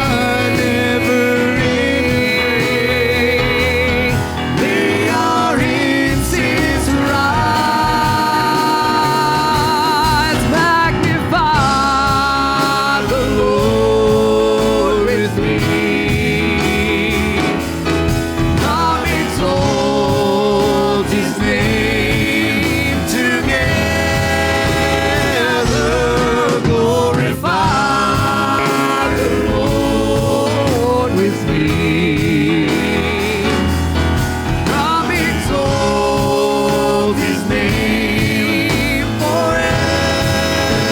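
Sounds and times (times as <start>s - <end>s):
gospel singing with vibrato: 0.0s - 40.9s
instrumental backing music: 0.0s - 40.9s.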